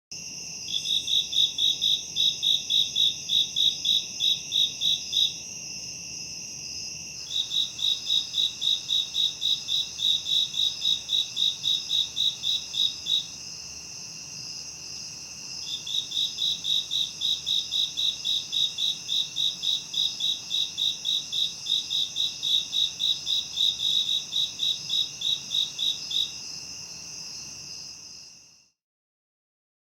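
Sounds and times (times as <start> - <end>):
insects buzzing: 0.2 - 28.5
insect chirping in pulses: 0.2 - 28.6.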